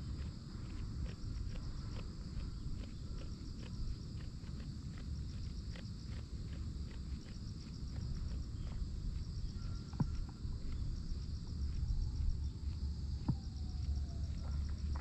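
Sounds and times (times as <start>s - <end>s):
goats chewing cud: 0.0s - 15.0s
insects chirping: 0.0s - 15.0s
low steady rumble: 0.0s - 15.0s.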